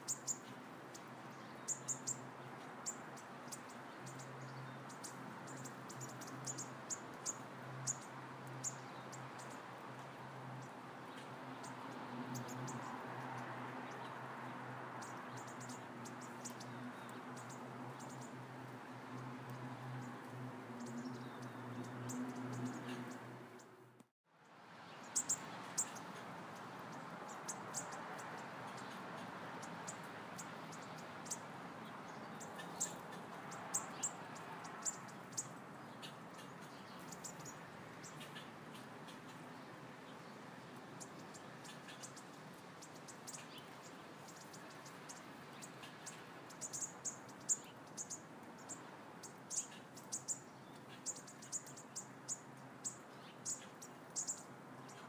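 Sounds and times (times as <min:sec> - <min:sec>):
small birds chirping: 0:00.0 - 0:24.0, 0:24.9 - 0:55.0.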